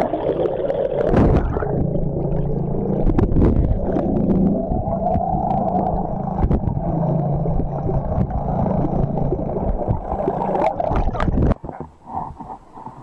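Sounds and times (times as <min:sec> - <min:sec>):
gurgling water: 0:00.0 - 0:13.0
muffled boat motor drone: 0:00.9 - 0:12.1.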